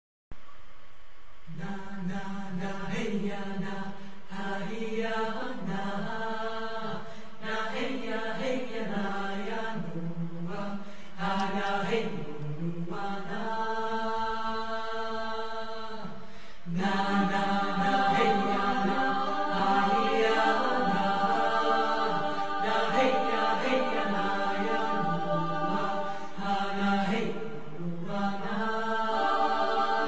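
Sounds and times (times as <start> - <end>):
choir chanting: 1.6 - 30.0.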